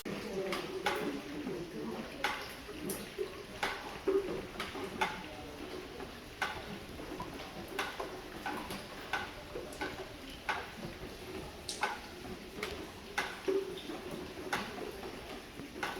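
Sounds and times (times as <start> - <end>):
faint hiss of rain: 0.0 - 15.9
rainwater dripping on hard surface: 0.0 - 15.9.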